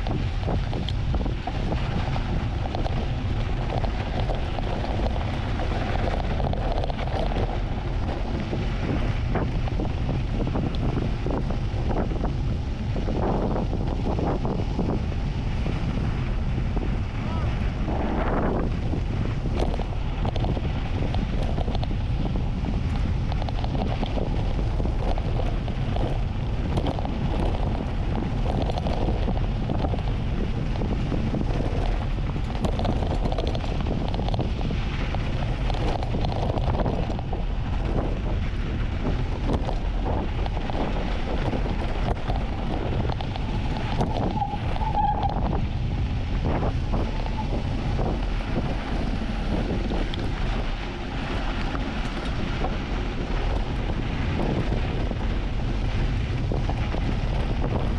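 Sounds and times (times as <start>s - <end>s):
bike rattling over rough ground: 0.0s - 57.9s
wind buffeting microphone: 0.0s - 57.9s.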